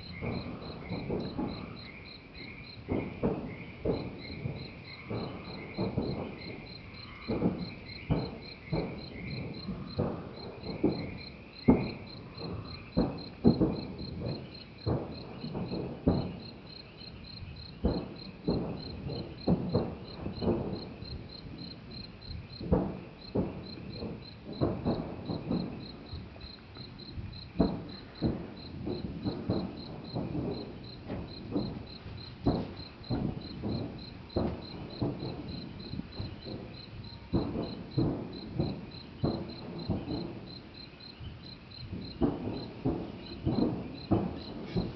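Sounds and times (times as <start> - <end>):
crickets chirping: 0.0 - 44.9
deep cannon booms: 0.0 - 44.9.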